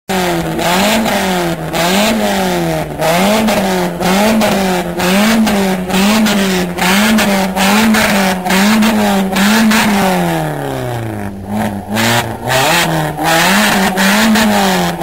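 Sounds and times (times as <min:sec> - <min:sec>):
car engine revving: 0:00.1 - 0:15.0.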